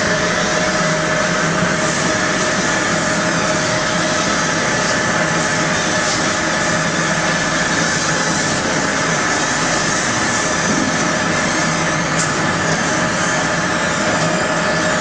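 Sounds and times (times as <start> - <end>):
crushing machine running: 0.0 - 15.0.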